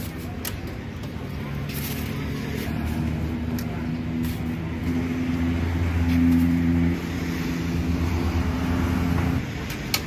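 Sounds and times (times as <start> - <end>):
engine running: 1.1 - 10.0.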